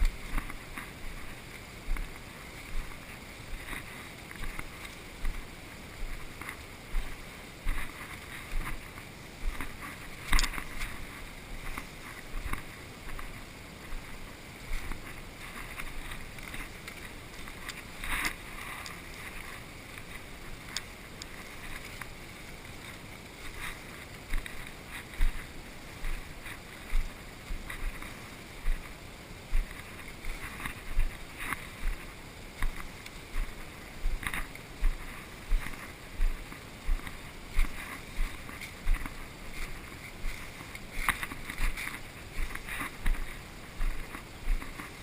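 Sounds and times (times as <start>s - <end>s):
brush rustling: 0.0s - 45.0s
footsteps in undergrowth: 0.0s - 45.0s.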